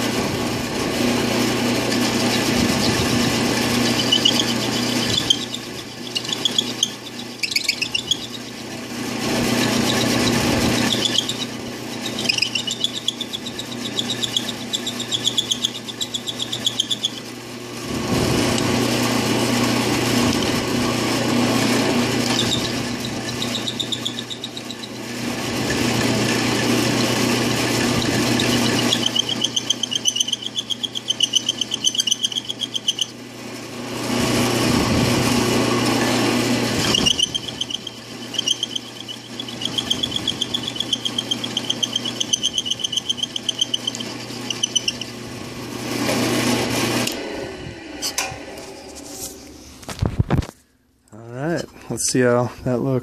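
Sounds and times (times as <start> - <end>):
drill press motor humming: 0.0 - 50.3
grinding stone squealing on steel: 1.0 - 33.2, 34.4 - 47.2.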